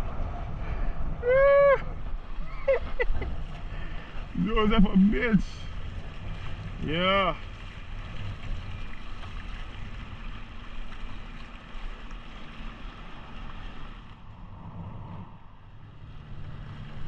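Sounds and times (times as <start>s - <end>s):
wind buffeting microphone: 0.0s - 11.8s, 12.5s - 17.0s
wind and water noise: 0.0s - 17.0s.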